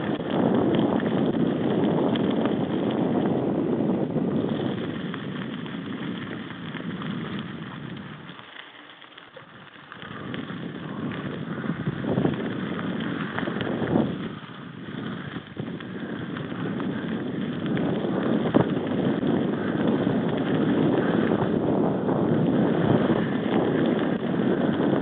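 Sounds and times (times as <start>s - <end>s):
bike rattles and knocks: 0.0s - 3.4s, 4.3s - 25.0s
wind buffeting microphone: 0.0s - 8.4s, 9.4s - 25.0s.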